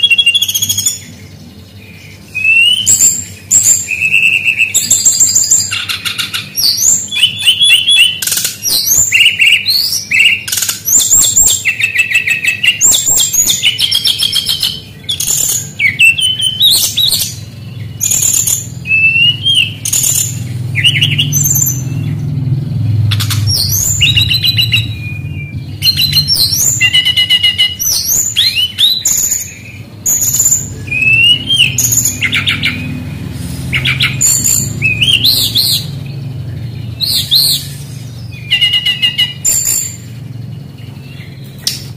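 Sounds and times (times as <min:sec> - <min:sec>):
bird singing fast varied song: 0:00.0 - 0:41.9.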